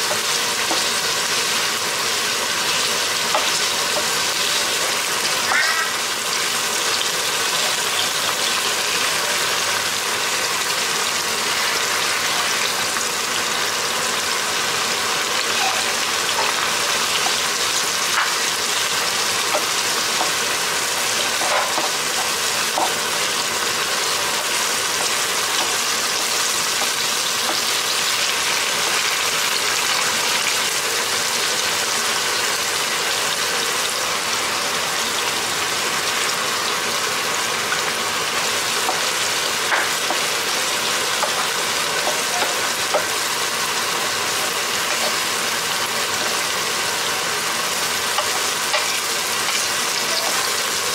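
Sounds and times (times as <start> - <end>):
meat and onions sizzling in pan: 0.0 - 50.9.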